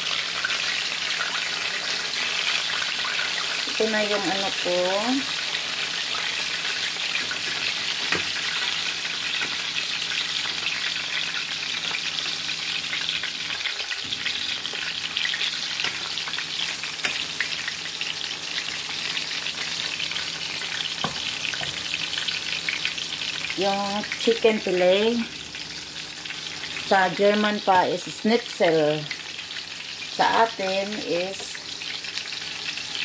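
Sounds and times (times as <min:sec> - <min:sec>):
chicken frying in hot oil: 0:00.0 - 0:33.0.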